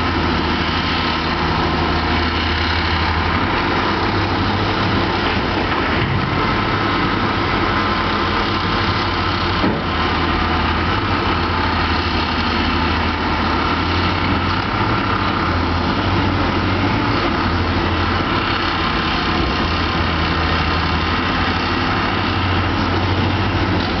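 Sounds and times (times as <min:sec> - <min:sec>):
heavy diesel machinery engine drone: 0:00.0 - 0:24.0.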